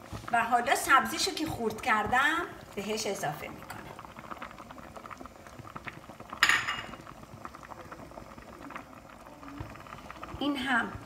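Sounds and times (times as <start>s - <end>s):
soup bubbling at a simmer: 0.0s - 11.0s.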